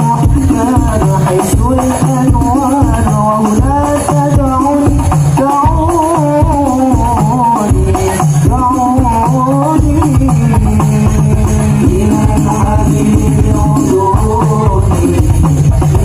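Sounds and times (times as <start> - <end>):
frame drums beating rhythm: 0.0 - 16.0
ornamented melody line: 0.0 - 16.0.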